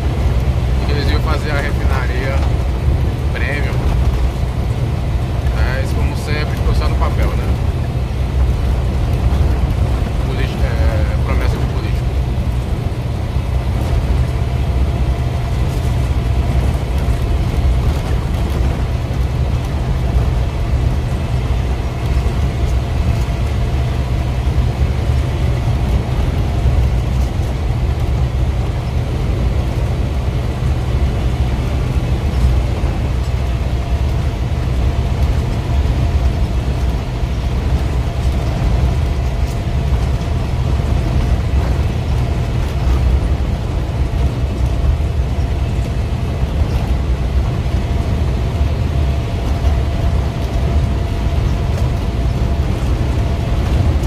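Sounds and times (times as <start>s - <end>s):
engine rumble: 0.0s - 54.0s
tyre and road noise: 0.0s - 54.0s.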